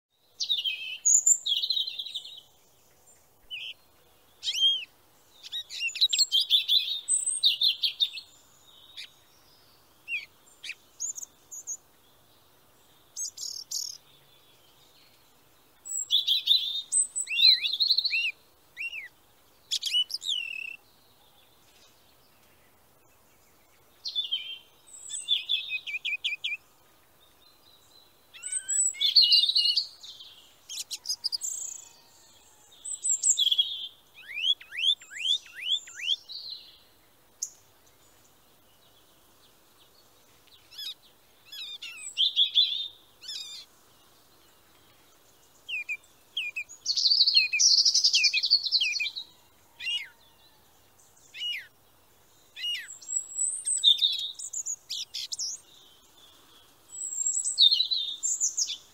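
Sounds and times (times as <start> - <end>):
small birds chirping and trilling: 0.1 - 58.9.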